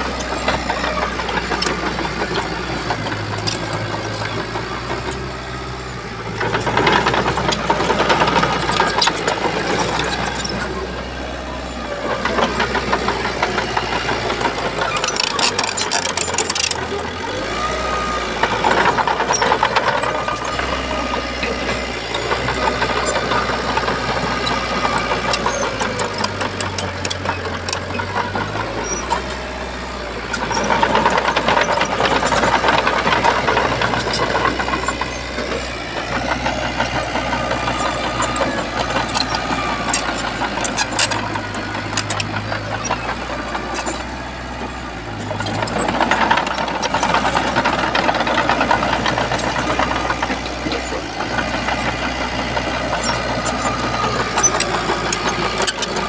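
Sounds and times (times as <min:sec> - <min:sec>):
bulldozer diesel engine clattering: 0:00.0 - 0:56.0.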